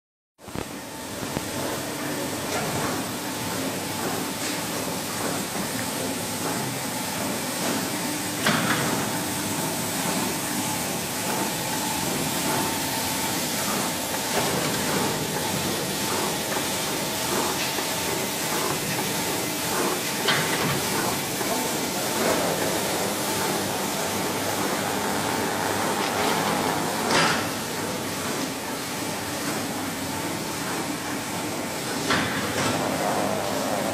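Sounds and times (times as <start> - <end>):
washing machine humming: 0.4 - 33.9.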